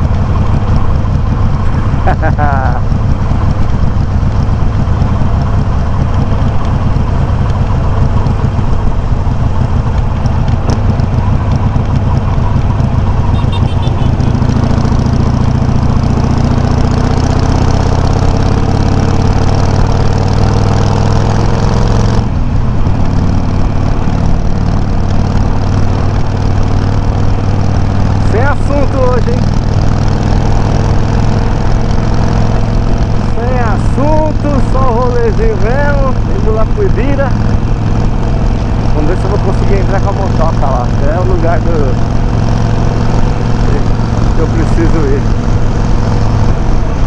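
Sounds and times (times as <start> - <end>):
motorcycle engine riding: 0.0 - 47.0.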